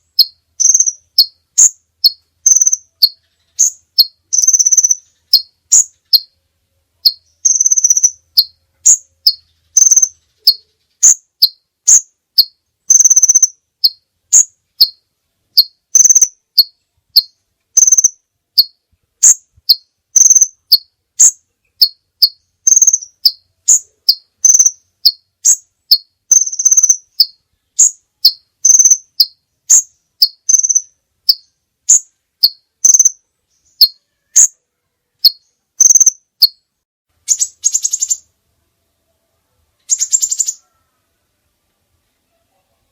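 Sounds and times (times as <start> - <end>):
songbird chirping: 0.0 - 42.9.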